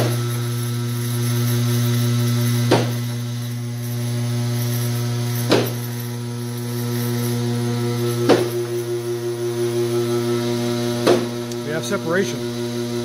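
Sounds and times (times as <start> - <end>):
hydraulic pump humming: 0.0 - 13.0.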